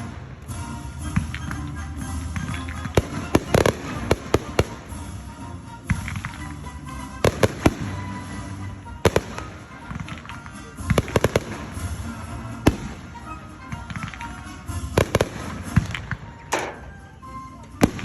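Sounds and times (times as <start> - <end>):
fireworks bangs: 0.0 - 17.0, 17.8 - 18.0
fireworks crackling: 0.0 - 18.0.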